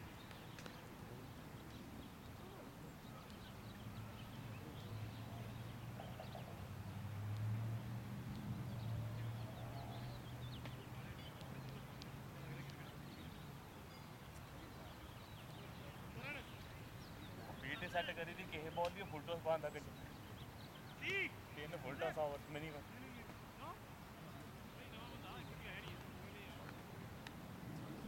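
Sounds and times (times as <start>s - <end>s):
faint distant voices: 0.0s - 28.0s.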